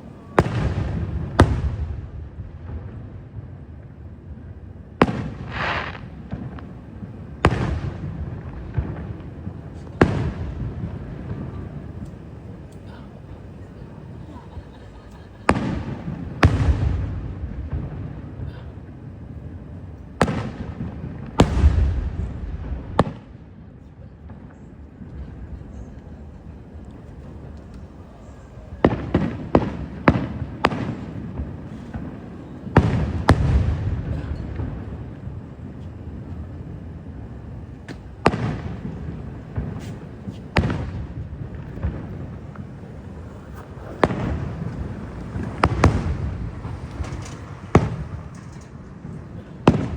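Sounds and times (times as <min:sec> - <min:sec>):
fireworks bangs with rumble: 0:00.0 - 0:49.9.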